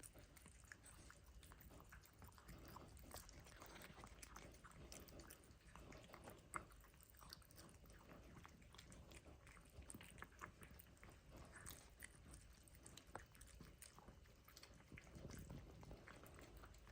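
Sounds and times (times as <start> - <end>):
cat chewing food: 0.0 - 16.9.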